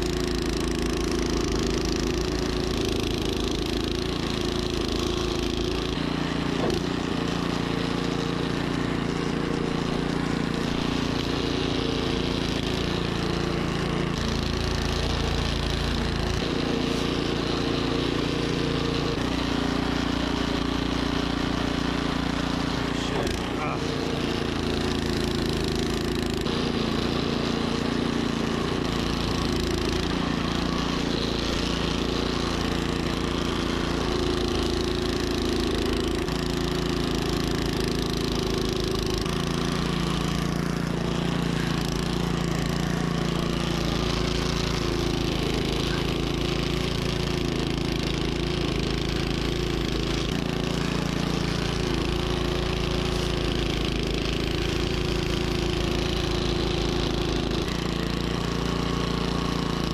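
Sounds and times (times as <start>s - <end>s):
snowblower engine running: 0.0s - 59.9s.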